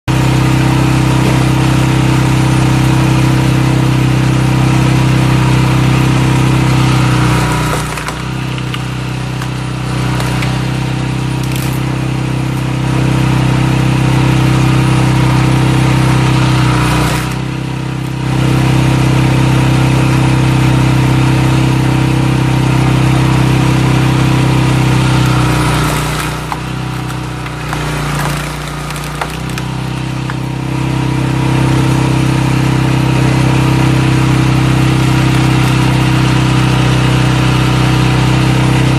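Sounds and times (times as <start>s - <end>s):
small engine running under load: 0.1s - 38.9s.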